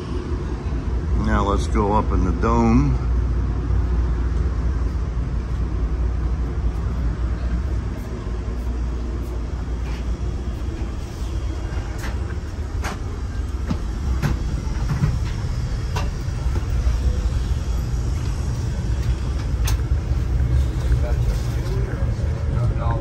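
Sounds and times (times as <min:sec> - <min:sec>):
train car rumbling on rails: 0:00.0 - 0:23.0.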